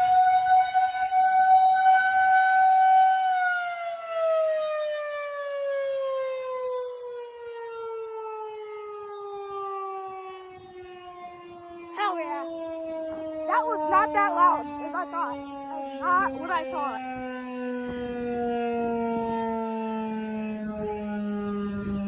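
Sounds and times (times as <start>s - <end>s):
fire siren wailing: 0.0s - 22.0s.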